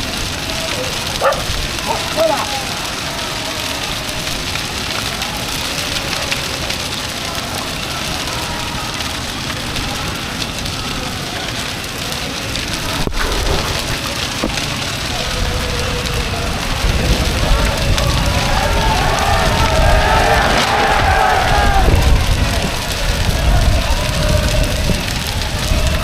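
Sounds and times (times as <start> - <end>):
bonfire crackling: 0.0 - 26.0
sharp crack of fire: 0.0 - 26.0.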